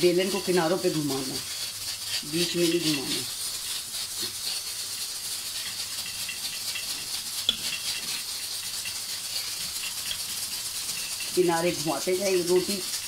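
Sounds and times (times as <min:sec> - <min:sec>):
rolling pin rolling dough: 0:00.0 - 0:13.0
steady hiss and low hum: 0:00.0 - 0:13.0.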